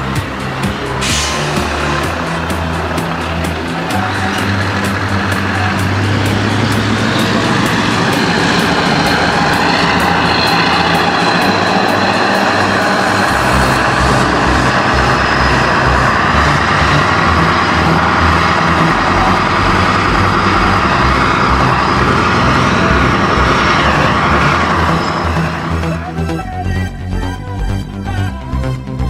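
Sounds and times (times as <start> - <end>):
diesel truck engine rumble: 0.0 - 29.0.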